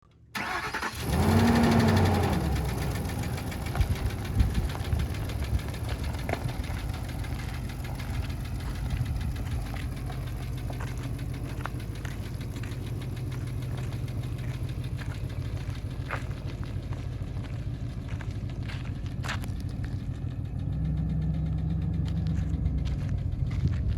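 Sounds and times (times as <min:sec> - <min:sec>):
pickup engine starting and idling: 0:00.1 - 0:23.9.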